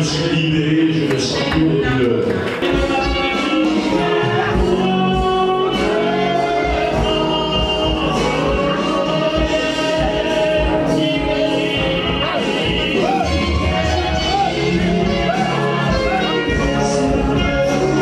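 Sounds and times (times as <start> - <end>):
steady drum beat: 2.5 - 18.0
instruments playing: 2.6 - 18.0
voices singing long notes: 2.6 - 18.0.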